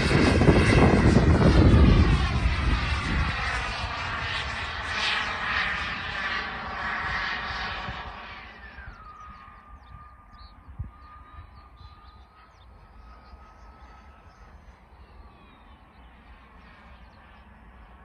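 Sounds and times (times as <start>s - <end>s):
wind rumble on microphone: 0.0s - 15.6s
distant jet turbine whine: 0.0s - 18.0s.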